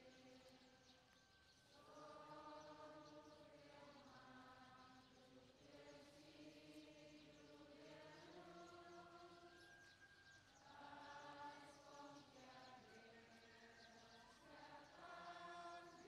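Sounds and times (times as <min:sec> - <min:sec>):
crowd singing a hymn: 0:00.0 - 0:01.0, 0:01.6 - 0:16.0.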